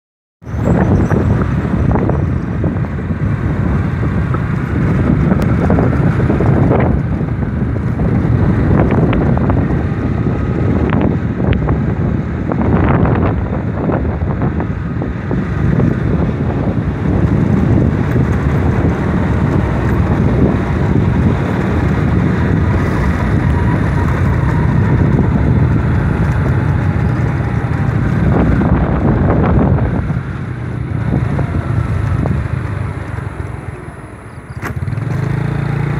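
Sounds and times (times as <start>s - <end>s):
wind buffeting microphone: 0.4s - 35.9s
motorbike engine running: 0.6s - 35.9s.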